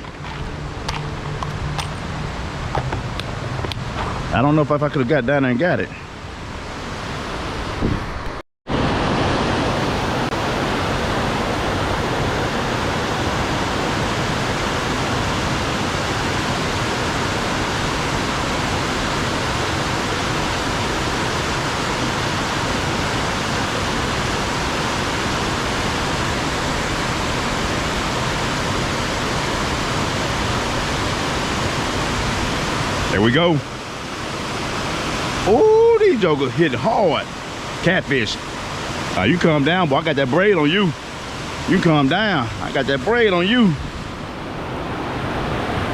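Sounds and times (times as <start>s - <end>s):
fast flowing water rushing: 0.0s - 45.9s.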